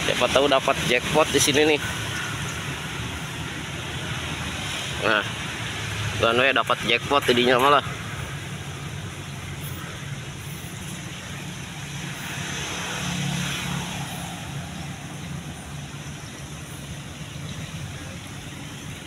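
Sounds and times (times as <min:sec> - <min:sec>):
road traffic engine hum: 0:00.0 - 0:19.0.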